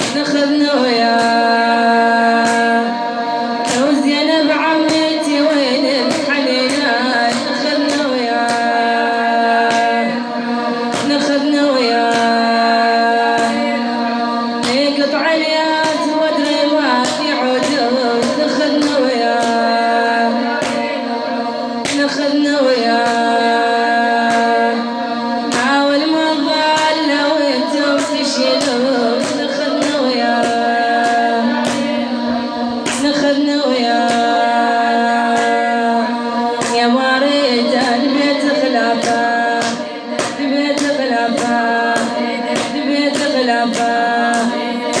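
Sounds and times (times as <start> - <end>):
sharp rhythmic beats: 0.0 - 45.0
voices singing mournful notes: 0.0 - 45.0.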